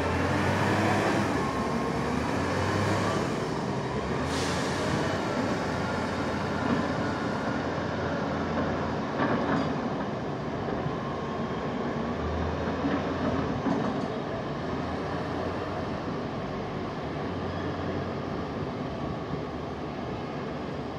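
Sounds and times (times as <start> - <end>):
diesel engines rumbling: 0.0 - 20.9.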